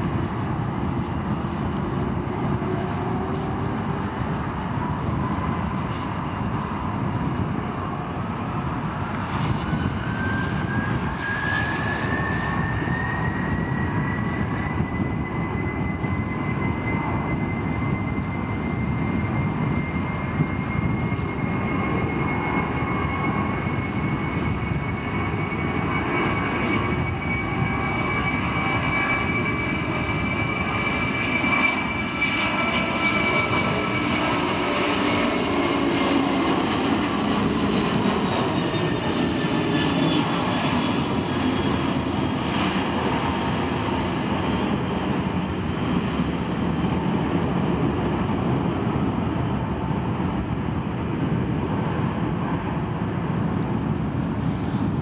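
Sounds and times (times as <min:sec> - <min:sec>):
jet engines roaring at takeoff: 0:00.0 - 0:55.0.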